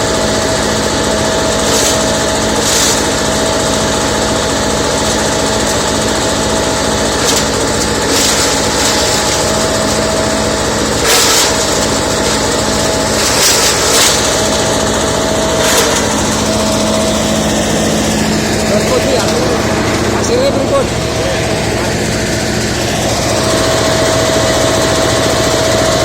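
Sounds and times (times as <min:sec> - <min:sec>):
chopping machine running: 0:00.0 - 0:26.0
diesel engine: 0:00.0 - 0:26.0.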